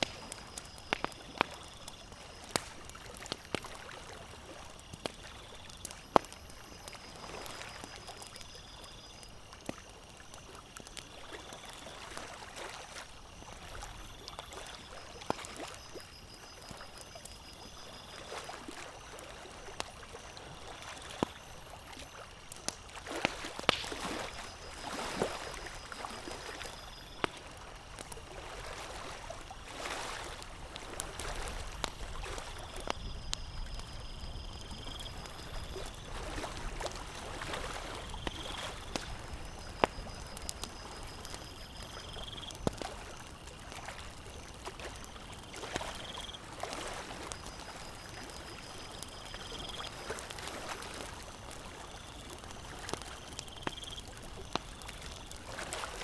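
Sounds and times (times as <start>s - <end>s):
campfire crackling and popping: 0.0s - 56.0s
water lapping at shore: 0.0s - 56.0s.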